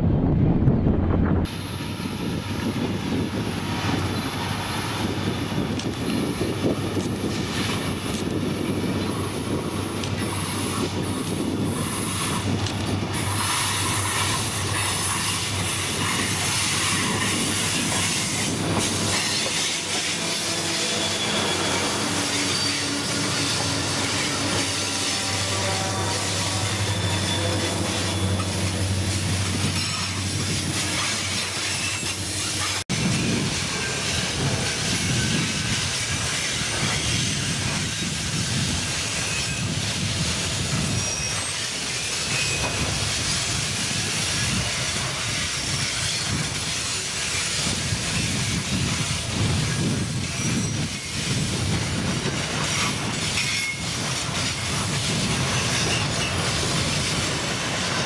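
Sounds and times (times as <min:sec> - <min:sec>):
train wheels rumbling on rails: 0:00.0 - 0:58.0
wheel squeals: 0:02.6 - 0:58.0.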